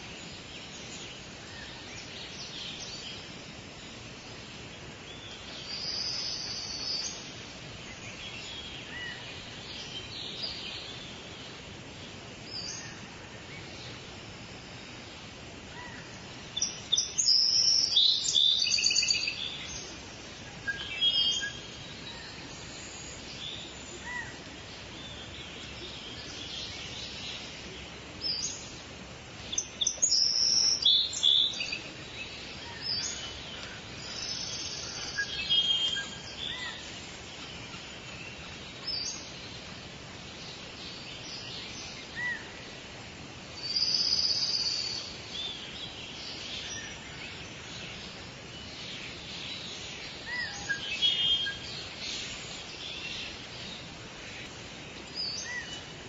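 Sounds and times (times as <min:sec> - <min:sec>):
forest birds chirping and trilling: 0:00.0 - 0:56.0
steady background hiss: 0:00.0 - 0:56.0.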